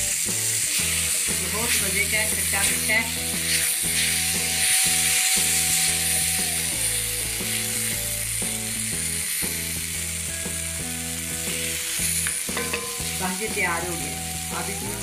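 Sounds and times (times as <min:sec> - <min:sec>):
instrumental background music: 0:00.0 - 0:15.0
masala sizzling in a frying pan: 0:00.0 - 0:15.0.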